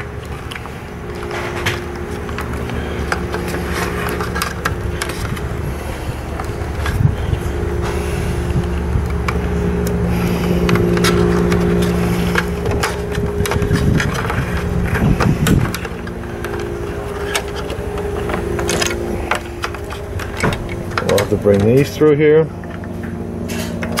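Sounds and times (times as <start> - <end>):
steady mechanical hum: 0.0 - 24.0
wires rustling and clicking: 0.0 - 24.0.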